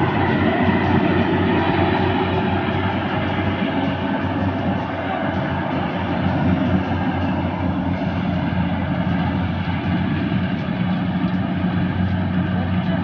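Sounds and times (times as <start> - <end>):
combine harvester engine humming: 0.0 - 13.0
harvester machinery noise: 0.0 - 13.0.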